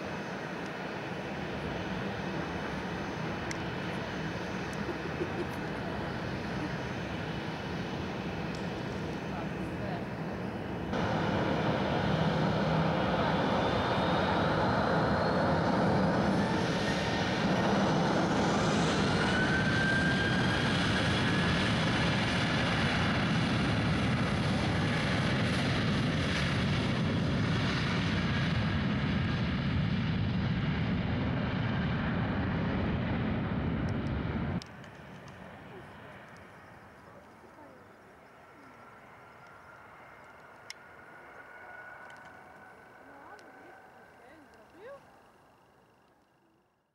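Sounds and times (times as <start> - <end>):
jet engine roar and whine: 0.0 - 46.9.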